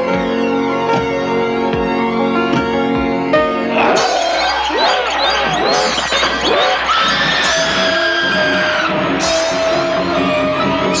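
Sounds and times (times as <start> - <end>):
film score held chords: 0.0 - 11.0.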